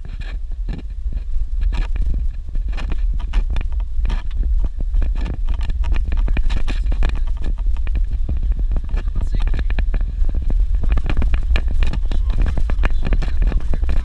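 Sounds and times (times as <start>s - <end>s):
rattles and knocks from bumps: 0.0s - 14.0s
vehicle rumbling on dirt road: 0.0s - 14.0s.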